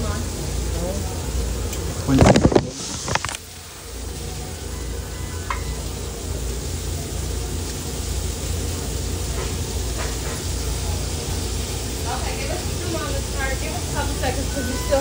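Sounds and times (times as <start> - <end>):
patties sizzling on a griddle: 0.0 - 15.0.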